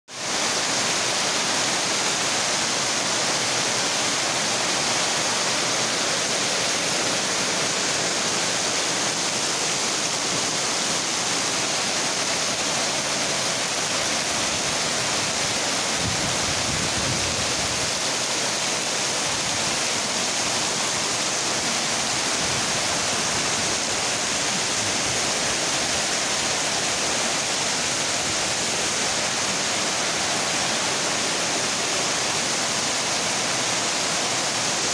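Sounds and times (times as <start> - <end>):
heavy rain falling on roofs: 0.1 - 34.9.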